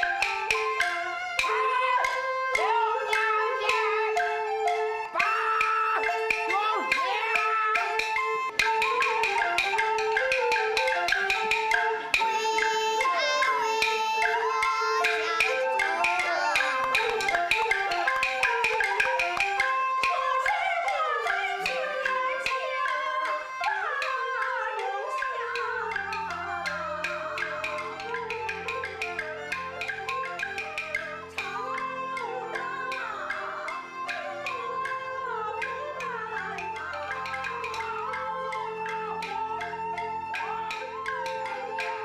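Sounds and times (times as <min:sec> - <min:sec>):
fast clicking percussion beat: 0:00.0 - 0:42.0
sliding wavering melody: 0:00.0 - 0:42.0.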